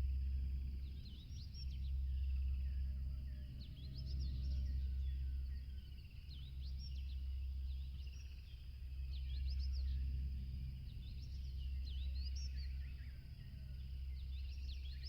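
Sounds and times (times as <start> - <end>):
steady low rumble: 0.0 - 15.0
small birds chirping: 0.8 - 15.0.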